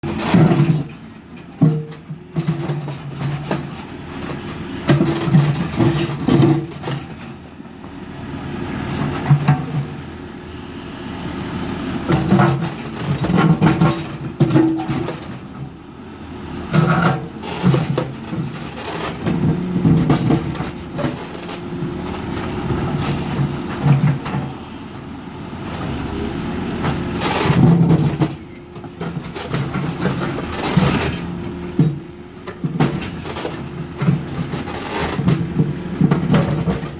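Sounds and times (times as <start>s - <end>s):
backhoe diesel engine running: 0.0s - 36.9s.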